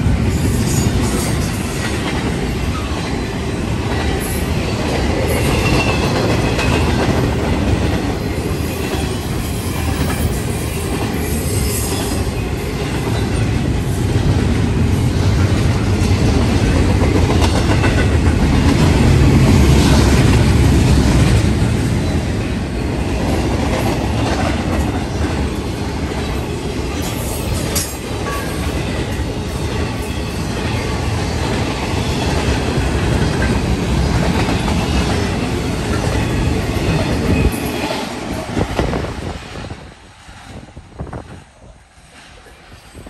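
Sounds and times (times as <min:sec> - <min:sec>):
freight train wheels clattering: 0:00.0 - 0:39.6.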